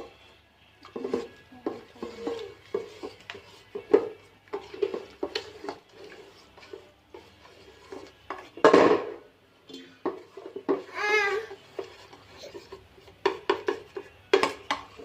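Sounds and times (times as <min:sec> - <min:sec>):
kitchenware clatter: 0:00.8 - 0:15.0
utensils clinking against pot: 0:00.8 - 0:15.0.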